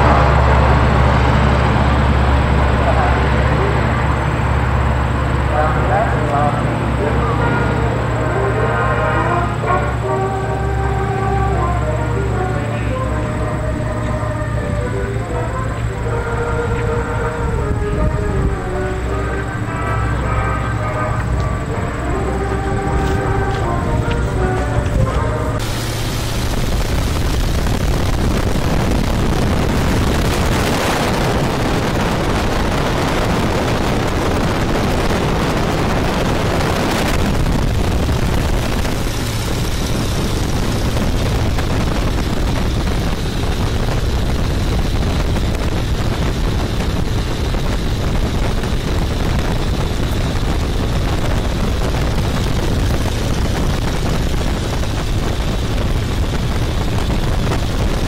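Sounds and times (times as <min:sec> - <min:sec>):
biplane engine droning: 0:00.0 - 0:58.0
wind rushing: 0:09.9 - 0:58.0.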